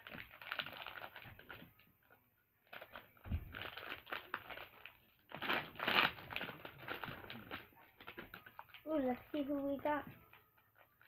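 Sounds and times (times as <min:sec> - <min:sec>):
plastic packet crinkling and tearing: 0:00.0 - 0:11.0.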